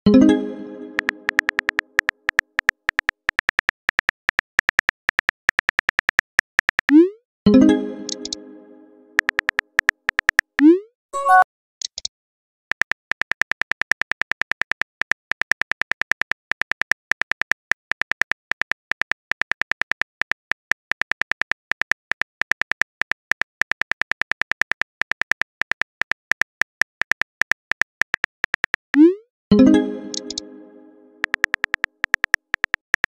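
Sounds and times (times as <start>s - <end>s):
phone keyboard typing clicks: 0.9s - 7.0s, 8.1s - 8.4s, 9.2s - 10.7s, 12.7s - 29.0s, 30.1s - 30.5s, 31.2s - 33.0s.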